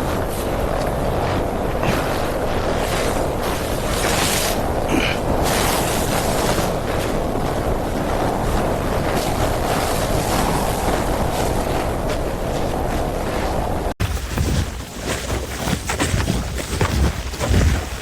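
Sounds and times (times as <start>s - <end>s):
blizzard wind blowing hard: 0.0s - 18.0s.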